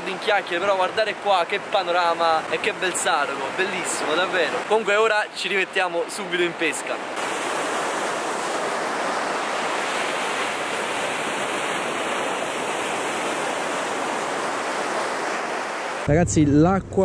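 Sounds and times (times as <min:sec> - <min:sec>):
sea surf breaking over rocks: 0:00.0 - 0:16.1.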